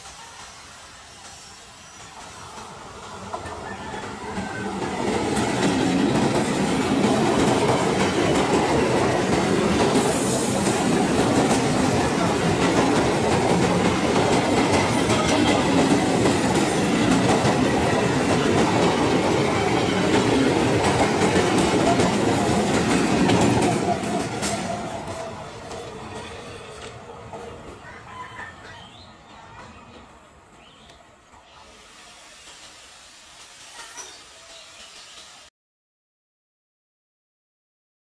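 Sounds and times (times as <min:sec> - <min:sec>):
train passing at speed: 0:00.0 - 0:35.5.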